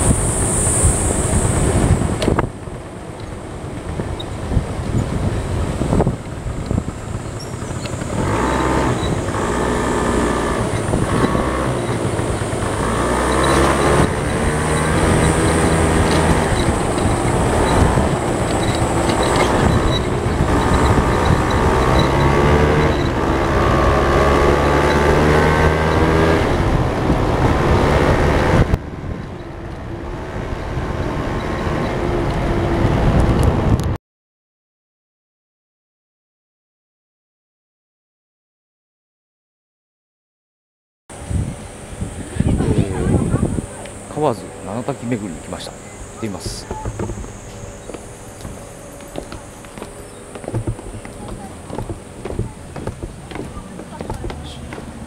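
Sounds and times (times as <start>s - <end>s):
road and wind noise: 0.0s - 34.0s, 41.1s - 55.0s
vehicle engine revving: 0.0s - 34.0s, 41.1s - 55.0s.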